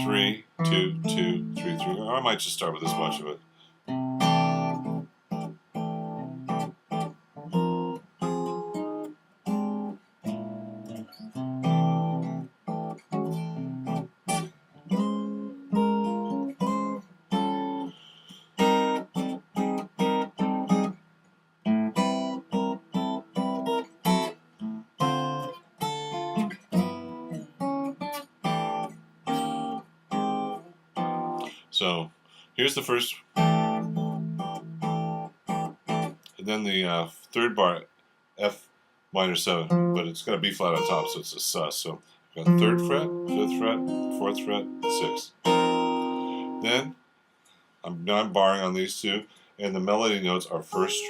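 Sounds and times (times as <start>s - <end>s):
jazz guitar chords: 0.0s - 21.0s, 21.6s - 32.0s, 32.8s - 37.5s, 39.2s - 41.7s, 42.4s - 47.0s.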